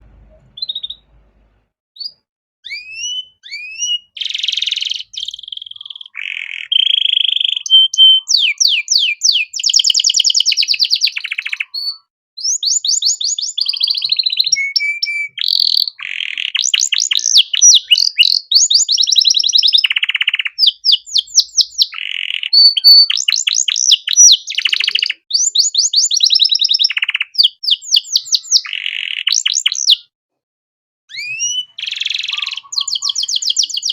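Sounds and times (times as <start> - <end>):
canary singing: 0.2 - 1.2, 2.0 - 30.1, 31.1 - 33.9.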